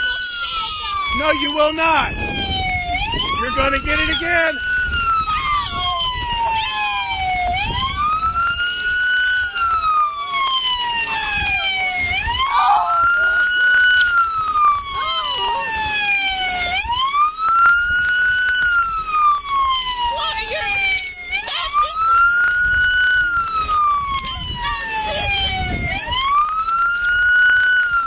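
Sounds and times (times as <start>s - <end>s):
police siren wailing: 0.0s - 28.0s.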